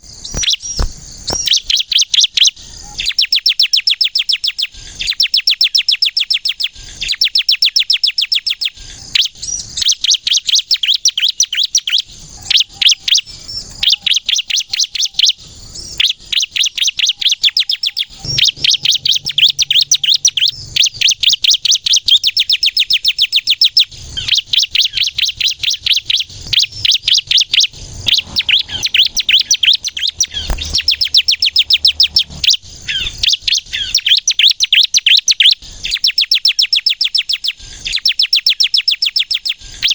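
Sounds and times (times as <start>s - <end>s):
bird singing rapid high chirps: 0.2s - 39.9s.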